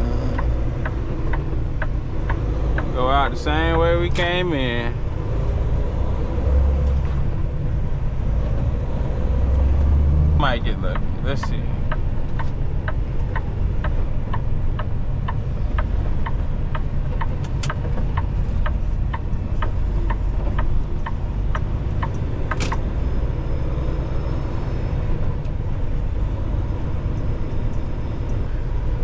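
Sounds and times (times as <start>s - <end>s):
diesel engine low rumble: 0.0s - 29.0s
turn signal ticking: 0.0s - 29.0s.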